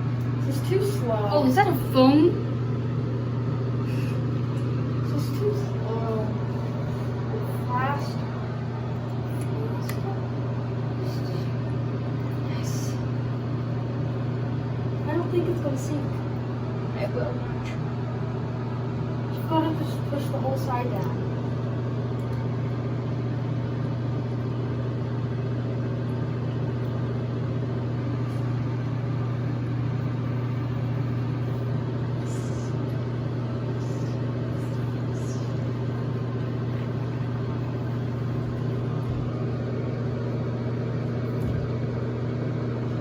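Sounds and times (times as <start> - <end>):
motor humming: 0.0 - 43.0.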